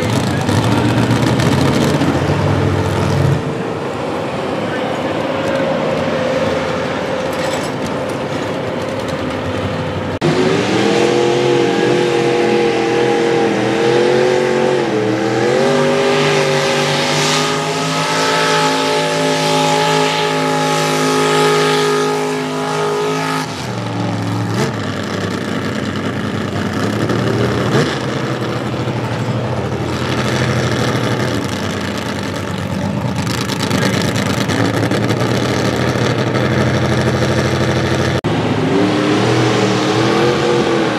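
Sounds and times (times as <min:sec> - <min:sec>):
tractor engine at full throttle: 0:00.0 - 0:40.9.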